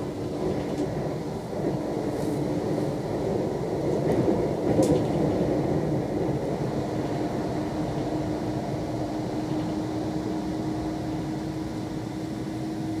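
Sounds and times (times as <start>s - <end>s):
steady train hum: 0.0s - 13.0s
train wheels and air rumble: 0.0s - 13.0s.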